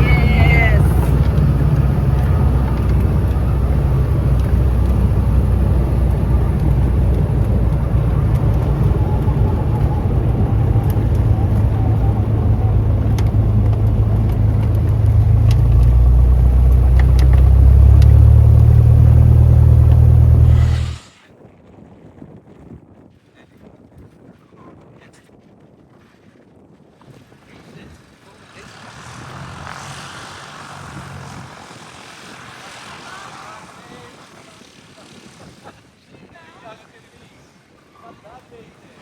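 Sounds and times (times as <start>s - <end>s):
propeller plane engine droning: 0.0s - 21.2s, 27.2s - 39.0s.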